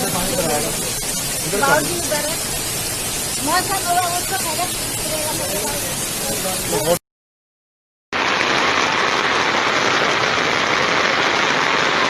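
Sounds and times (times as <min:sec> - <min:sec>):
heavy rain on floodwater: 0:00.0 - 0:07.0, 0:08.1 - 0:12.0.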